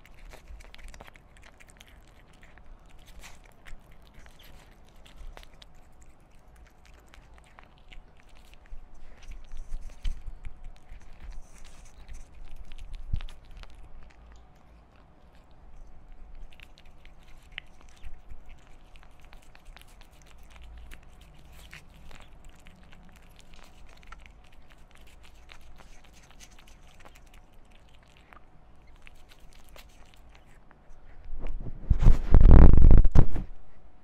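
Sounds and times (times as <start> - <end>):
kitten chewing and licking: 0.0 - 33.7.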